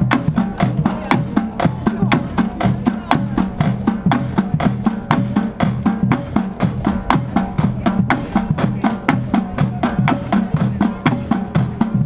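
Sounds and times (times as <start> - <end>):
low pitched drums: 0.0 - 12.0
marching drumline cadence: 0.0 - 12.0.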